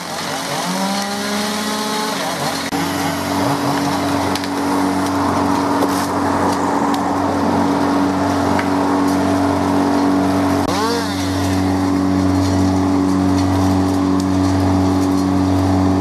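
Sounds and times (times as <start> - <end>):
chainsaws running: 0.0 - 16.0
wood chipper engine: 0.0 - 16.0.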